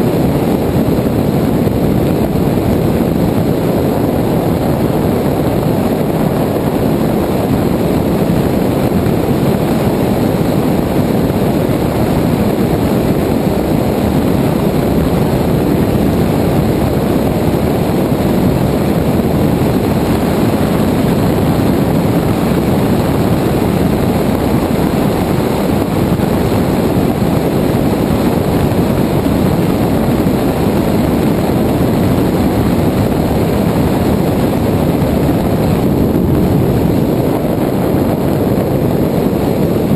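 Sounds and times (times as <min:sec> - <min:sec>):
propeller plane engine droning: 0:00.0 - 0:39.9
wind rushing over microphone: 0:00.0 - 0:39.9.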